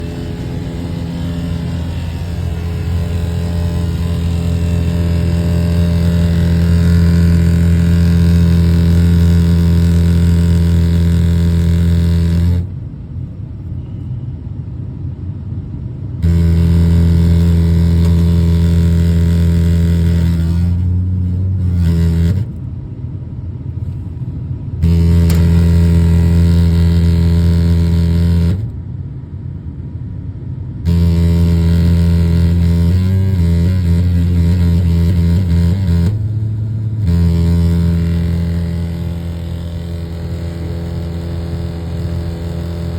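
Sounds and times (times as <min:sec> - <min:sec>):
furnace low hum: 0:00.0 - 0:42.9.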